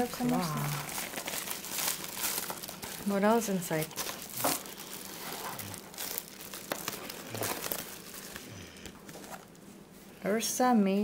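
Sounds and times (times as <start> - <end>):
packing wrap crinkling: 0.0 - 9.8.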